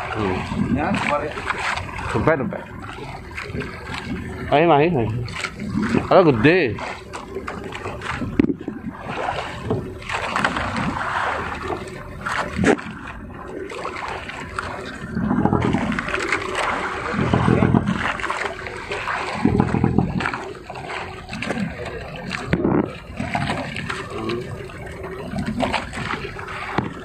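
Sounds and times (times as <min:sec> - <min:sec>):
water splashing along boat hull: 0:00.0 - 0:27.0.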